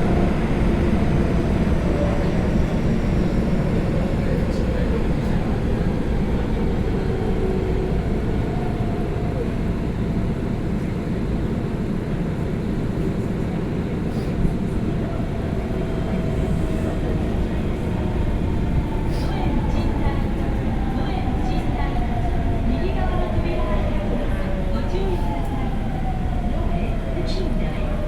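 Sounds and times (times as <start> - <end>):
subway train rumble: 0.0 - 28.0.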